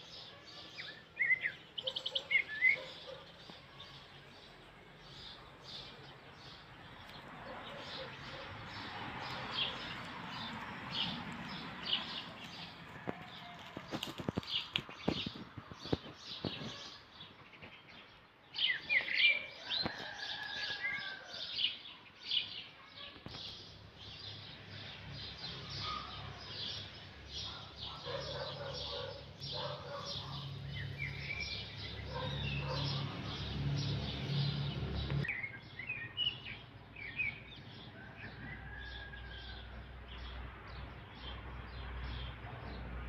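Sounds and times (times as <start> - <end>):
small birds chirping: 0.0 - 39.2.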